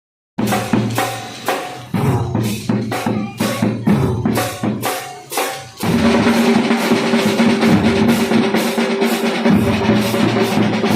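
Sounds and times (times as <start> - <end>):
marching drum band playing: 0.4 - 10.9.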